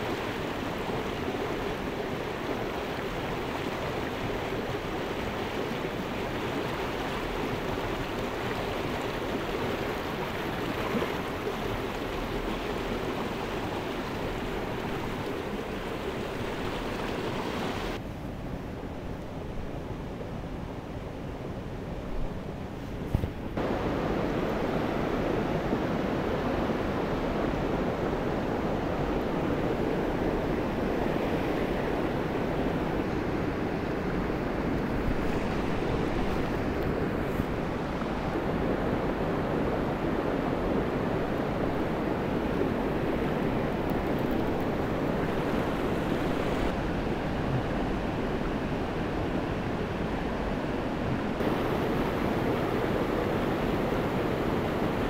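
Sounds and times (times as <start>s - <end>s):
stream water rushing: 0.0s - 18.0s, 23.5s - 55.0s.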